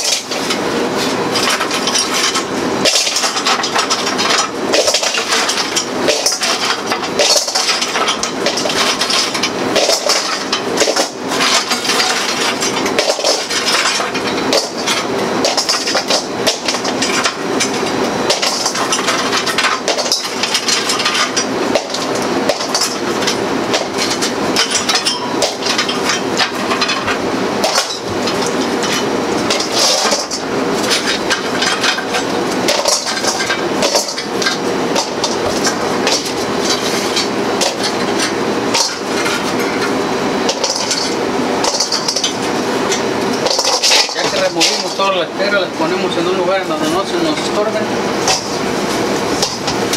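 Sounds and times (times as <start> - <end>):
rocks clattering on metal grates: 0.0 - 45.2, 46.9 - 49.9.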